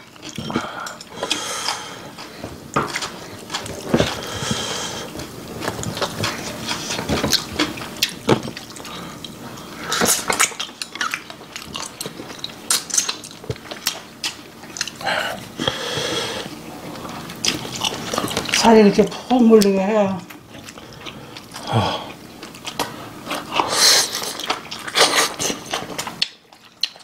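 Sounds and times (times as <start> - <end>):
wet eating sounds: 0.0 - 27.0.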